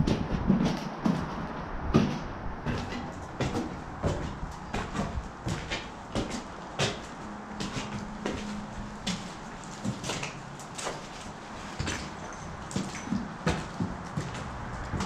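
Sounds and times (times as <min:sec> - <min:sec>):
footsteps on gritty concrete stairs: 0:00.0 - 0:15.0.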